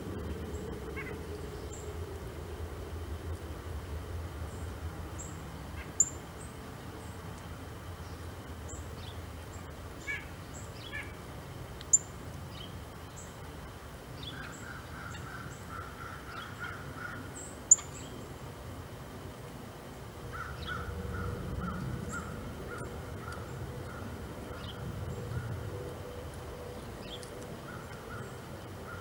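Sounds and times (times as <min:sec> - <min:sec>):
lower rapid bird calls: 0:00.0 - 0:07.2, 0:07.9 - 0:11.2, 0:14.1 - 0:18.4, 0:19.8 - 0:29.0.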